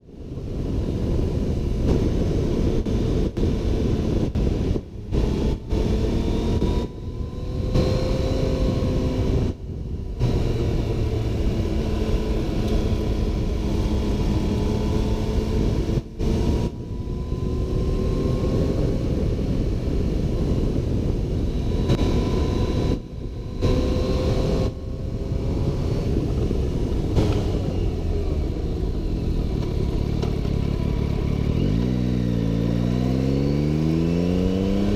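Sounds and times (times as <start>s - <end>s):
heavy low rumble: 0.0s - 34.9s
motorcycle engine running: 0.0s - 34.9s.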